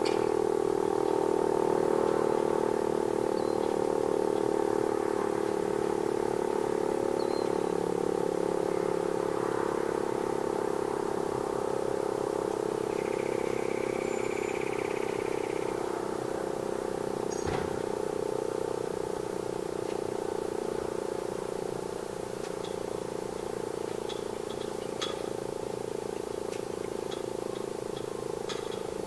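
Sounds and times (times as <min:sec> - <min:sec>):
rotating warning siren tone: 0:00.0 - 0:29.0.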